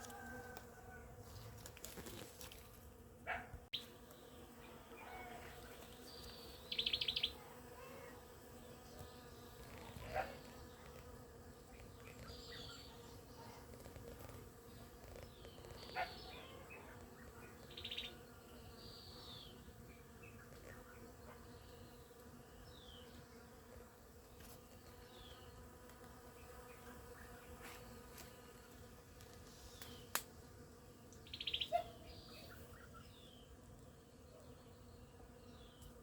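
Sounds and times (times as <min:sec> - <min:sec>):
bees humming: 0:00.0 - 0:36.0.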